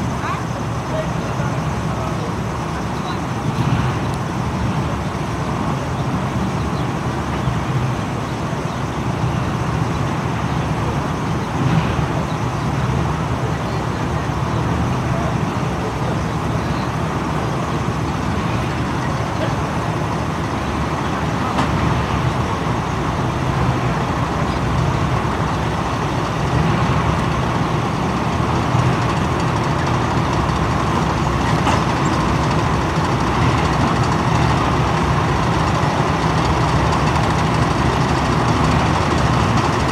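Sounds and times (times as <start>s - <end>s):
military vehicle engines droning: 0.0s - 39.9s.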